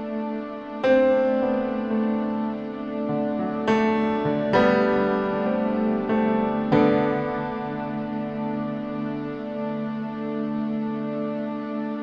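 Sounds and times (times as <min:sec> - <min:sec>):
electric piano chords: 0:00.0 - 0:12.0.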